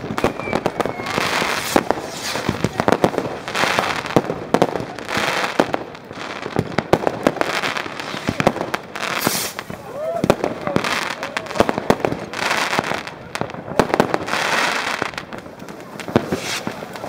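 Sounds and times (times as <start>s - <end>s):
fireworks bangs and pops: 0.0s - 17.0s
fireworks hissing rushes: 0.0s - 17.0s.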